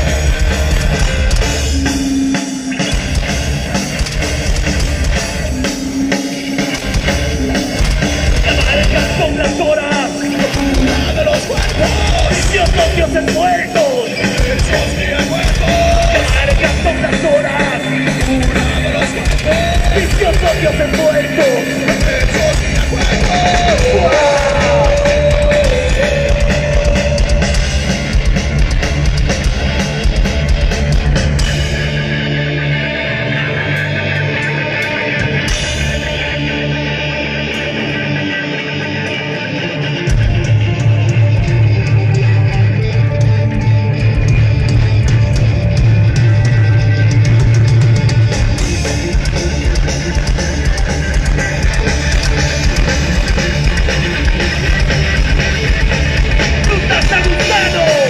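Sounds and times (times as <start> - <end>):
live rock band instrumental: 0.0 - 58.0.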